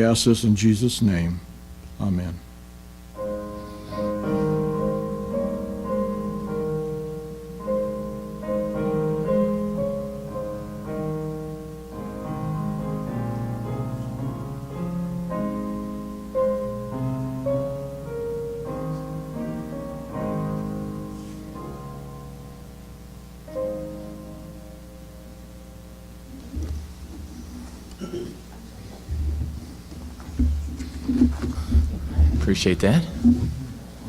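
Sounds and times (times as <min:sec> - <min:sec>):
slow piano chords: 0:03.0 - 0:34.0.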